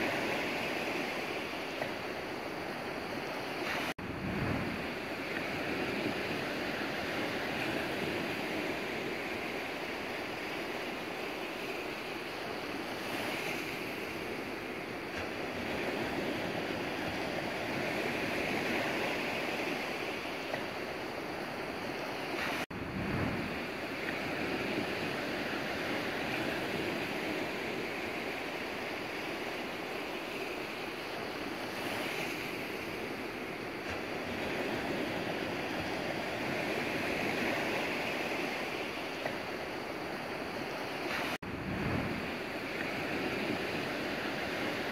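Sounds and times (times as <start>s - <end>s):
rushing water: 0.0s - 44.9s.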